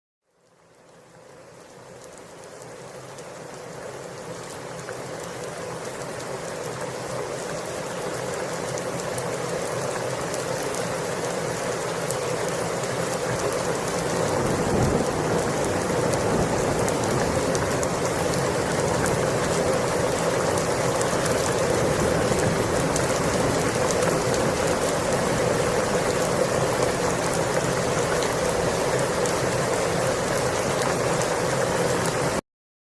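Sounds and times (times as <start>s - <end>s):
rain pattering: 0.3s - 32.4s.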